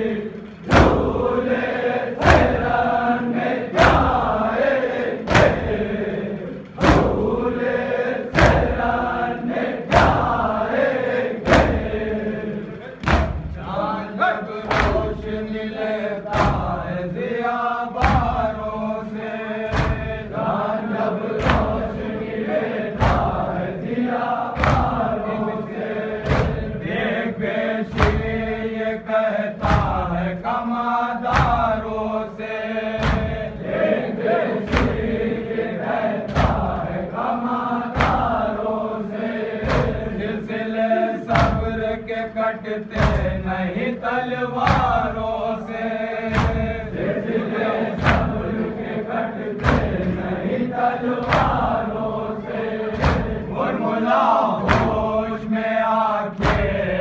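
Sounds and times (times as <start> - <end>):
rhythmic chest-beating thuds: 0.0 - 57.0
voices chanting a lament: 0.0 - 57.0.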